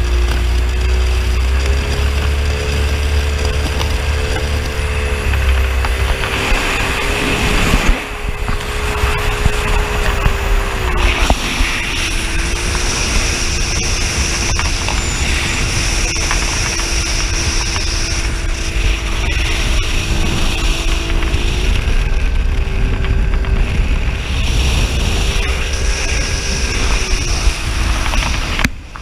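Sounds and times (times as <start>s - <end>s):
speedboat engine running: 0.0s - 29.0s
wind buffeting microphone: 0.0s - 29.0s.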